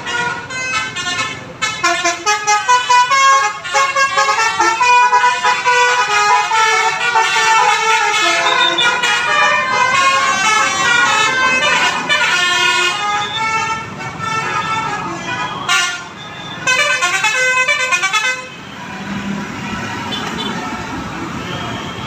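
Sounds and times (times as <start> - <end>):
multi-tone bus air horn melody: 0.0 - 19.0.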